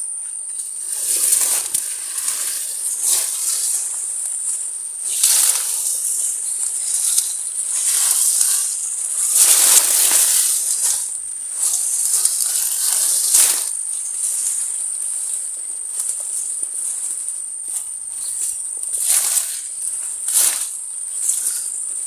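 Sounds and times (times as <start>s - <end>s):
insect chirring: 0.0s - 22.0s
grass rustling and swishing: 0.8s - 22.0s.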